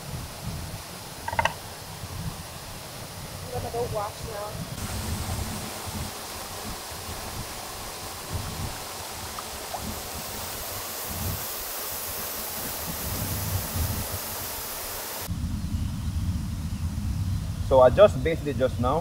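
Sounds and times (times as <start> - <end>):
river water running: 0.0 - 15.3.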